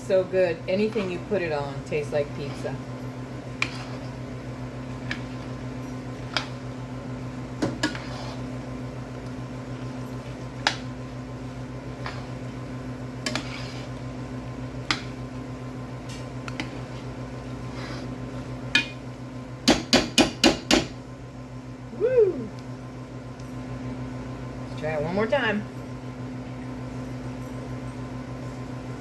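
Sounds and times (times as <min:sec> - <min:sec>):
kitchen appliance humming: 0:00.0 - 0:29.0.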